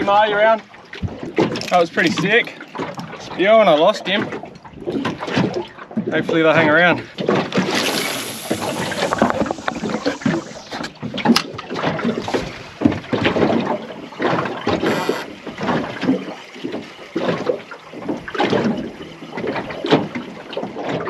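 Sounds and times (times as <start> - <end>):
water slapping against boat hull: 0.0 - 21.0.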